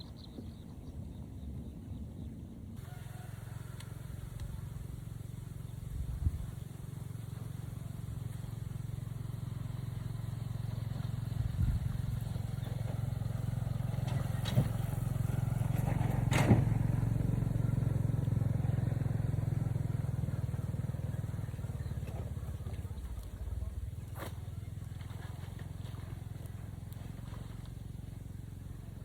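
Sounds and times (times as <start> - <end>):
small engine running: 2.8 - 29.0.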